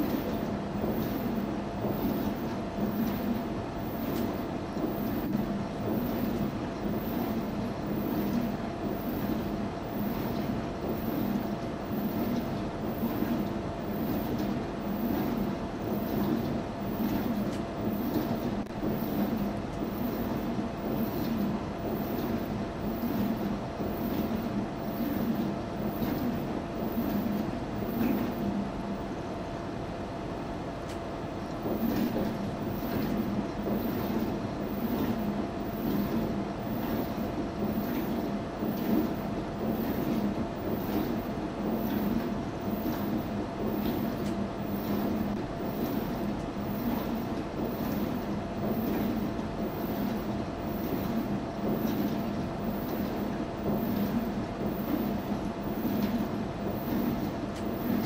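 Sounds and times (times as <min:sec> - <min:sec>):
washing machine hum: 0:00.0 - 0:58.0.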